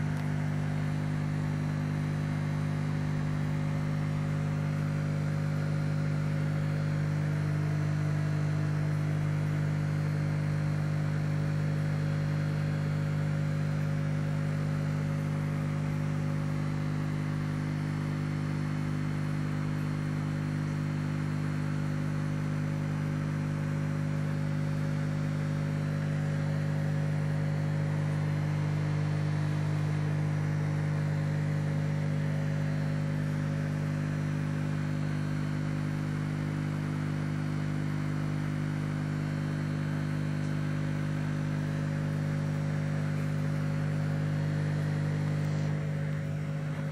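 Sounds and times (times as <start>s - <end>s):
aquarium pump humming: 0.0s - 46.9s.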